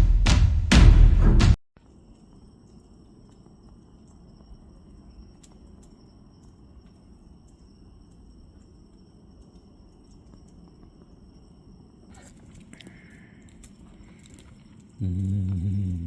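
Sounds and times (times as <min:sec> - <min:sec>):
faint ticks: 0:01.8 - 0:16.0
insects droning: 0:01.8 - 0:16.0.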